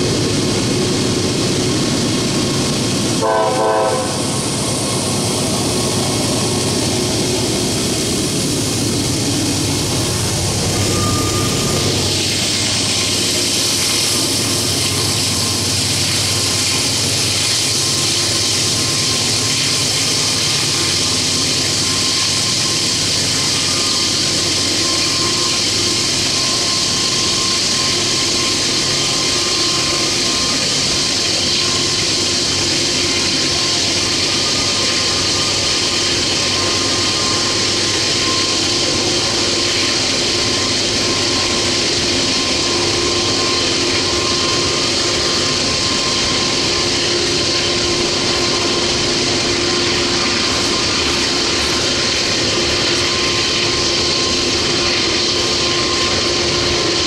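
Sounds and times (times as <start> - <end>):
diesel locomotive working hard: 0.0 - 57.0.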